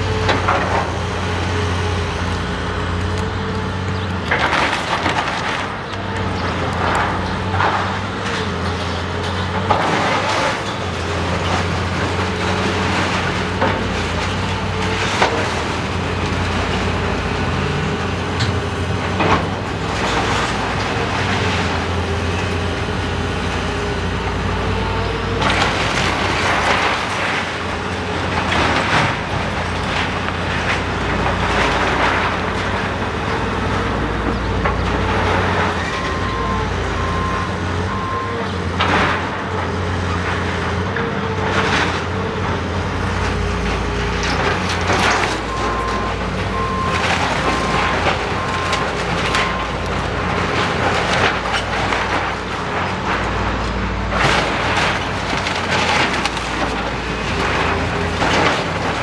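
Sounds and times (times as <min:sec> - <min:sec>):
crashes of falling debris: 0:00.0 - 0:59.0
excavator diesel engine running: 0:00.0 - 0:59.0.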